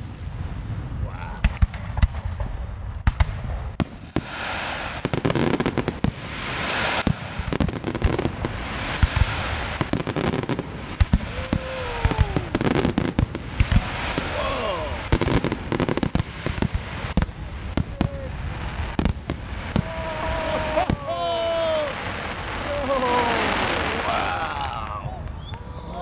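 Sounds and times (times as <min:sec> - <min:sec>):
fireworks booming and cracking: 0:00.0 - 0:26.0
fireworks crackling: 0:00.0 - 0:26.0.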